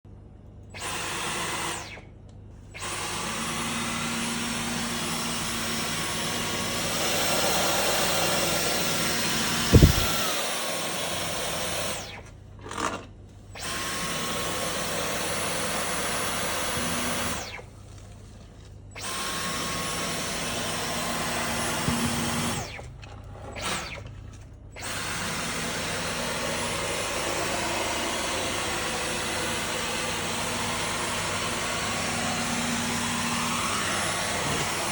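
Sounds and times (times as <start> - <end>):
stick vacuum whining: 2.8 - 17.7, 18.9 - 34.9.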